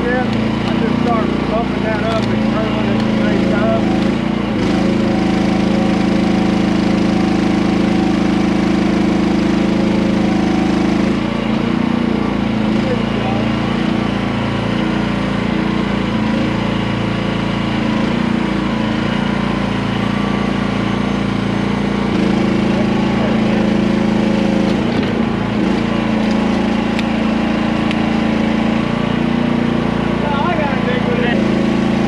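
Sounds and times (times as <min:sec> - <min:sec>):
small gasoline engine running: 0:00.0 - 0:32.0.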